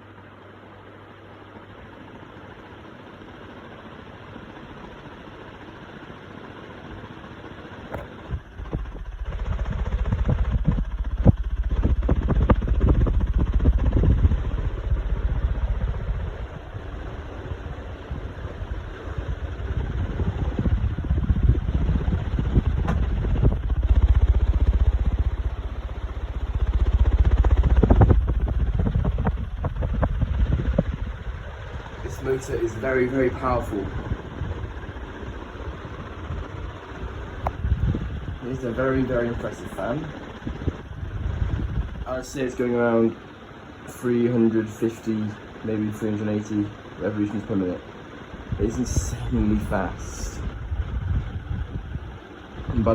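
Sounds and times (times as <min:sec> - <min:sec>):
ceiling fan motor hum: 0:00.0 - 0:52.9
air rush buffeting microphone: 0:08.2 - 0:43.3, 0:44.0 - 0:52.9.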